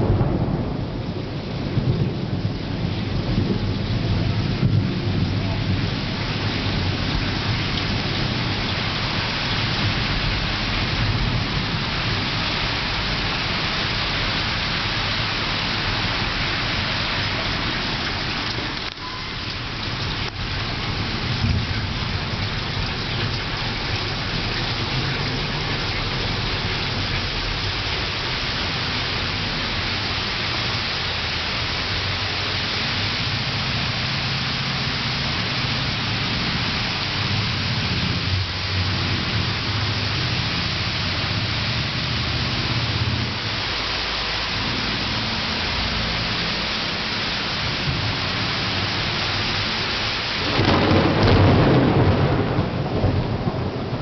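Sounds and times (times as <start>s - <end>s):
thunder rumbling: 0.0s - 43.7s, 47.4s - 54.0s
heavy rain: 0.0s - 54.0s.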